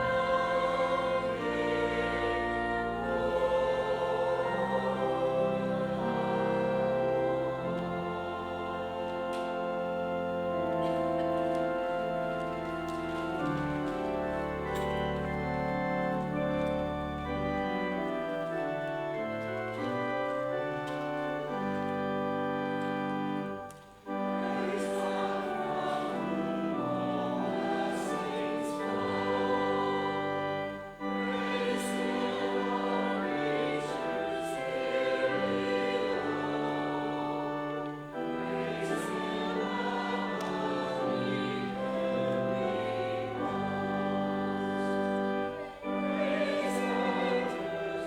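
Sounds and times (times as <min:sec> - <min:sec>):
choir singing sacred anthem: 0:00.0 - 0:48.0
instrumental accompaniment: 0:00.0 - 0:48.0.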